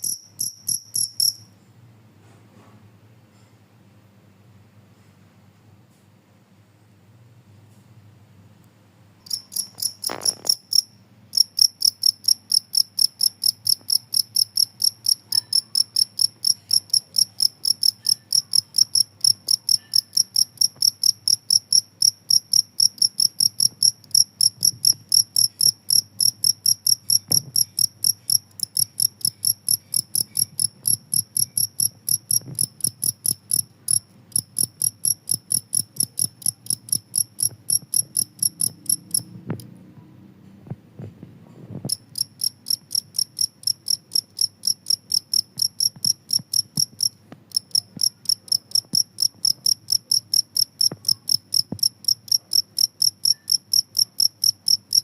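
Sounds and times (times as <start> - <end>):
cricket chirping: 0.0 - 1.5, 9.2 - 39.6, 41.9 - 55.0.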